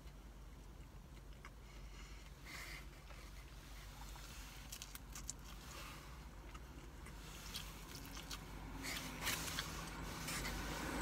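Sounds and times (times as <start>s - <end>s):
person chewing pizza: 0.0s - 10.6s.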